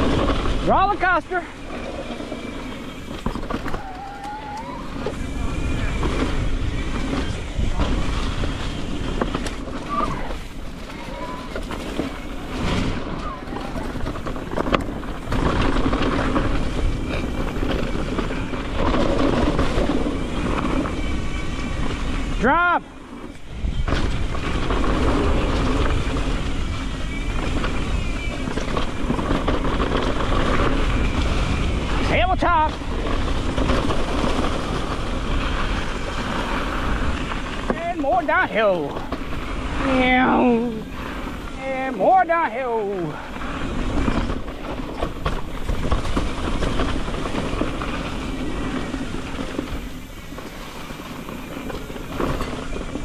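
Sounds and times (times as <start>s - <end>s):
bike rattles and clicks: 0.0s - 53.0s
tyres rolling on dirt trail: 0.0s - 53.0s.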